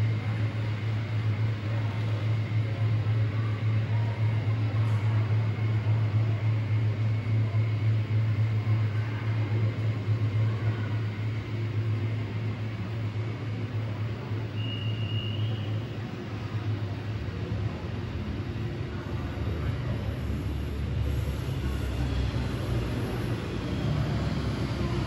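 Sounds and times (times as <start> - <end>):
model train running on track: 0.0 - 25.0.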